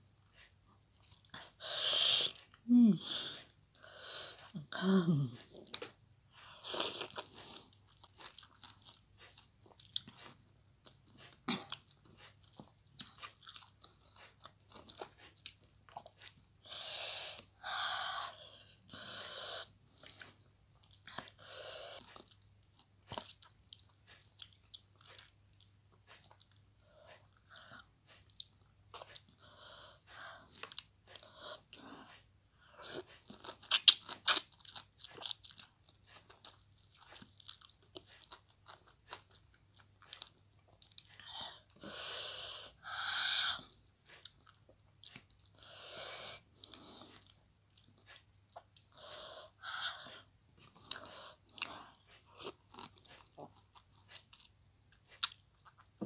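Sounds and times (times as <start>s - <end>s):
chewing and biting lemon slices: 5.4s - 17.5s, 20.0s - 41.9s, 43.6s - 56.0s.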